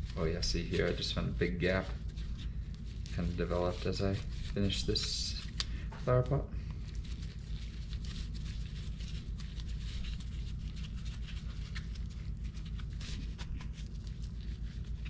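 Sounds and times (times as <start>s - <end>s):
rustling and crackling of cardboard: 0.0s - 15.0s
steady low hum: 0.0s - 15.0s.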